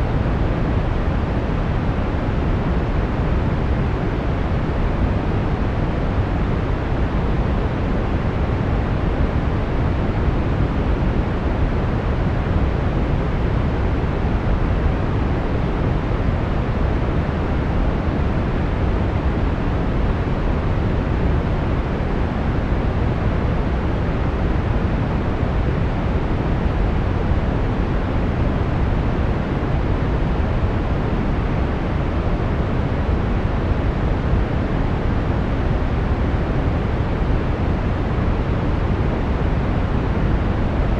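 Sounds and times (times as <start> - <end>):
brown noise hiss: 0.0 - 40.9.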